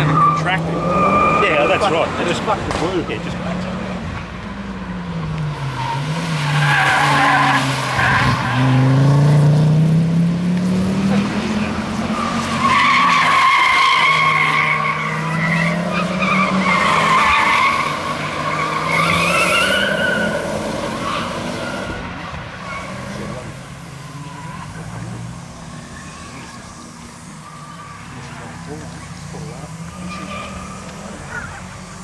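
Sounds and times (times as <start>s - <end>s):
car tyres squealing: 0.0s - 9.9s, 10.7s - 32.0s.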